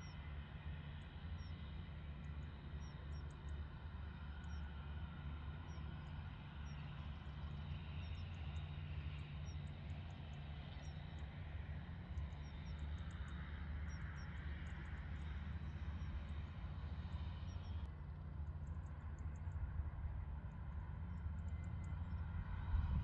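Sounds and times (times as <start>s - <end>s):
jet engine whine: 0.0s - 23.0s.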